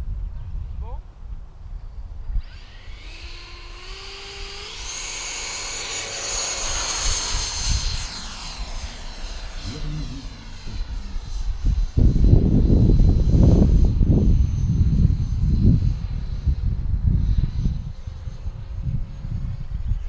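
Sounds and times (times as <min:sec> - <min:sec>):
wind rumble on microphone: 0:00.0 - 0:05.9, 0:06.6 - 0:20.0
model jet whine: 0:01.3 - 0:20.0.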